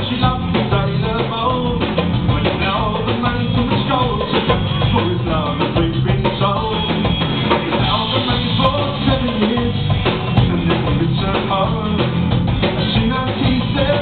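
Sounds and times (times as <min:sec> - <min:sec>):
bass guitar: 0:00.0 - 0:14.0
drum kit beat: 0:00.0 - 0:14.0
electric guitars: 0:00.0 - 0:14.0.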